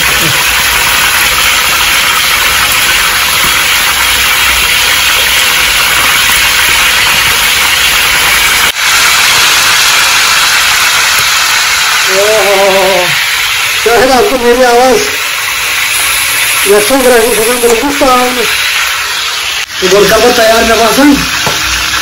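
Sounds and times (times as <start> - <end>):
chicken frying in hot oil: 0.0 - 22.0.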